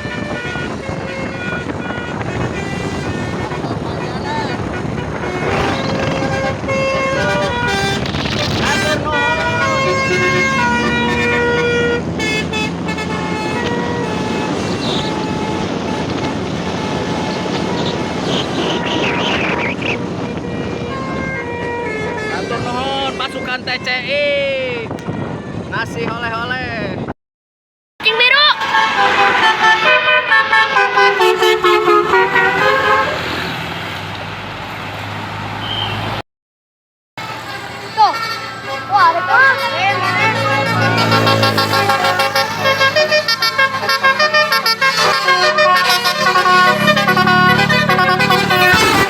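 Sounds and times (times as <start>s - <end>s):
musical vehicle horn melody: 0.0s - 24.2s, 24.9s - 25.6s, 28.1s - 33.7s, 37.2s - 49.0s
traffic and engine noise: 0.0s - 27.1s, 28.0s - 36.2s, 37.2s - 49.0s.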